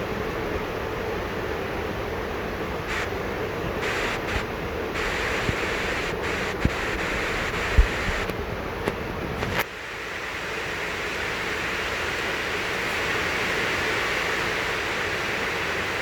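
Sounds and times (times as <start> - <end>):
heavy rain: 0.2 - 16.0.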